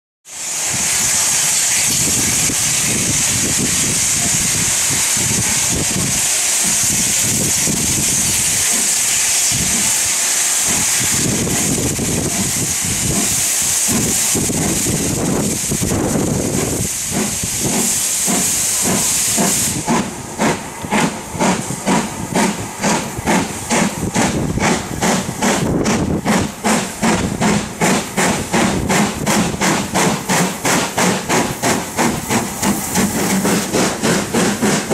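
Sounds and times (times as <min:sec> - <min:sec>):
steam hissing: 0:00.3 - 0:34.9
steam locomotive chuffing: 0:00.3 - 0:34.9.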